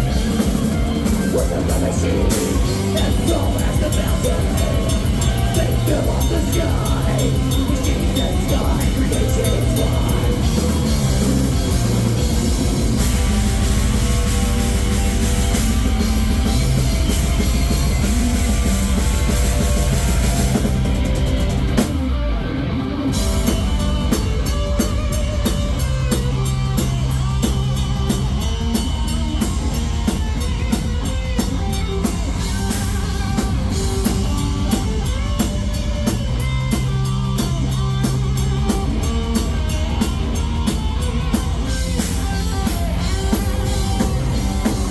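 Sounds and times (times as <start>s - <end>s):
rapid drum beat: 0.0s - 22.3s, 23.0s - 44.9s
distorted guitars: 0.0s - 44.9s
heavy metal band playing: 0.0s - 44.9s.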